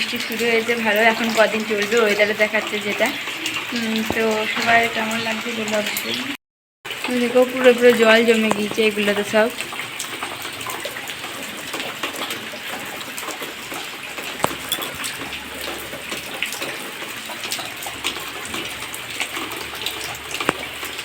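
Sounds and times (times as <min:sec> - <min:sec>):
drips splashing into buckets: 0:00.0 - 0:21.0
steady rainfall: 0:00.0 - 0:21.0.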